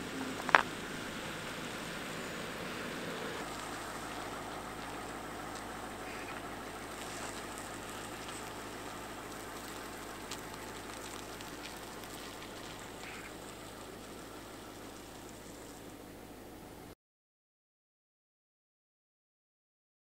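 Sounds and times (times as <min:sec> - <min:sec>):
engine running at low revs: 0:00.0 - 0:16.9.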